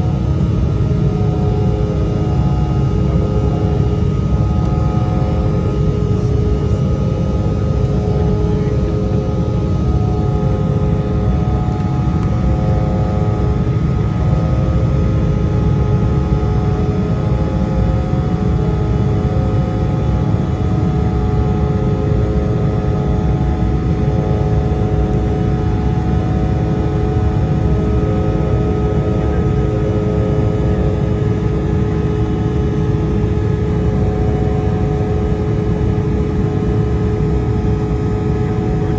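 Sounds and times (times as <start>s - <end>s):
jet engine rumble in cabin: 0.0s - 38.9s
steady whining tones: 0.0s - 38.9s.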